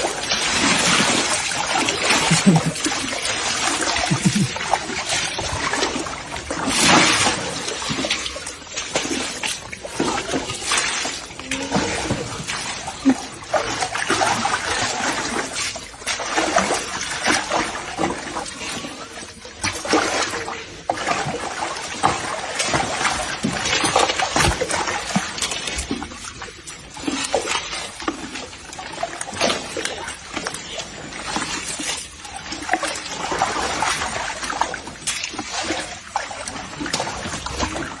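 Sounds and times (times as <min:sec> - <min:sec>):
water splashing and trickling: 0:00.0 - 0:38.0.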